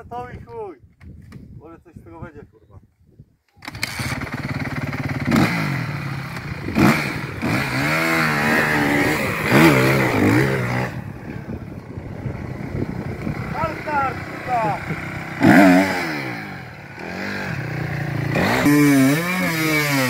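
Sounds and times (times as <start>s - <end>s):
off-road vehicle engine revving: 3.7s - 20.0s.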